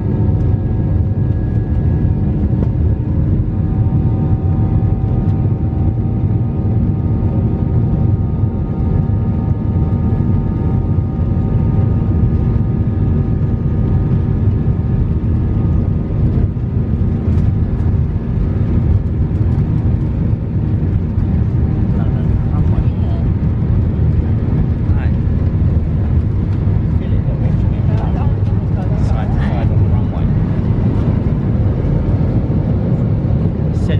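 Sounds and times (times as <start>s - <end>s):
aircraft cabin engine rumble: 0.0s - 33.9s.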